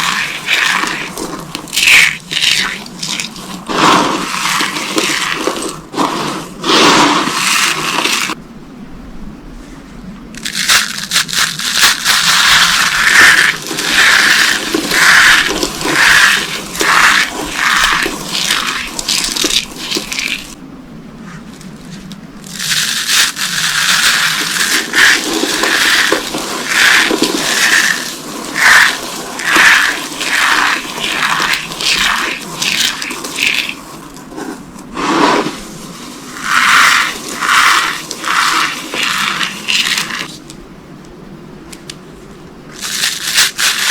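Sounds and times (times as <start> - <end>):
crunching soap boxes by hand: 0.0 - 8.4, 10.4 - 20.6, 21.6 - 40.6, 42.7 - 43.9.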